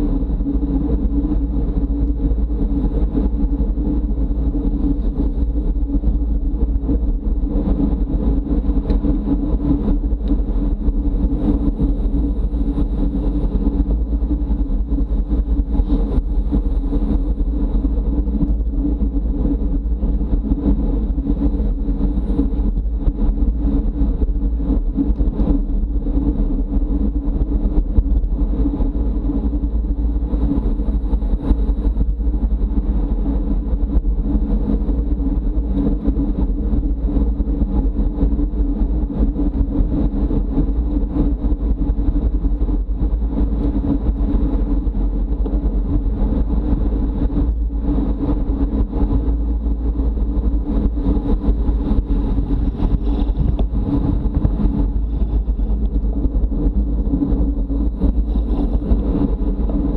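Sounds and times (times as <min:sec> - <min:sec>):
steady hum: 0:00.0 - 0:59.9
wind and road rumble: 0:00.0 - 0:59.9.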